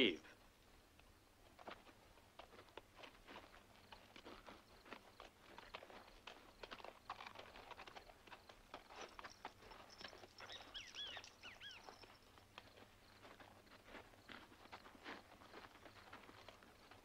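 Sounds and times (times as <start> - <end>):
footsteps on dirt: 0.9 - 17.0.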